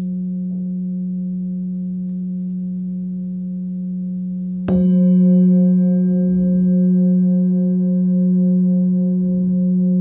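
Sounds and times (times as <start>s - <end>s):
singing bowl ringing: 0.0s - 10.0s.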